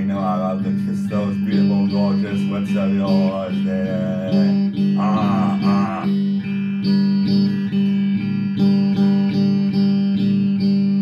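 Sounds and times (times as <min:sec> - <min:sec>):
electric guitar strumming chords: 0:00.0 - 0:11.0.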